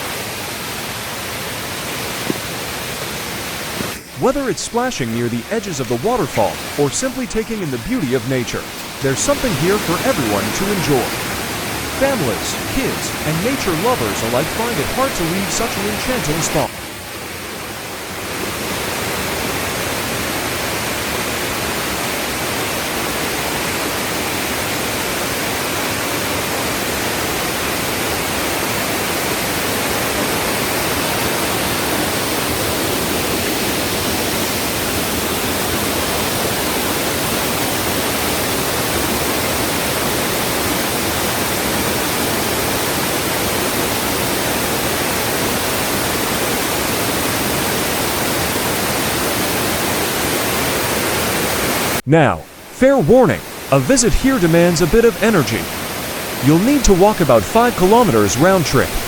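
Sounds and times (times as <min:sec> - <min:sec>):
waterfall rushing over rocks: 0:00.0 - 0:52.7.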